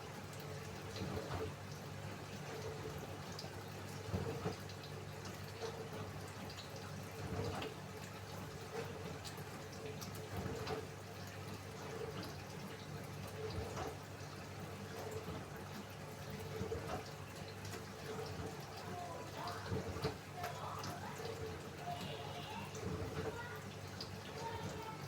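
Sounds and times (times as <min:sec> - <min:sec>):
washing machine humming: 0:00.0 - 0:25.0
water sloshing and dripping: 0:00.0 - 0:25.0.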